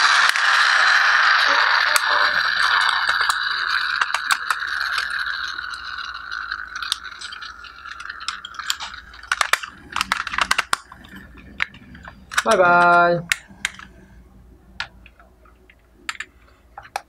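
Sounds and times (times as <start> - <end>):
plastic toy clicks and rattles: 0.0 - 14.1, 14.8 - 17.0
steady hiss: 0.0 - 17.0.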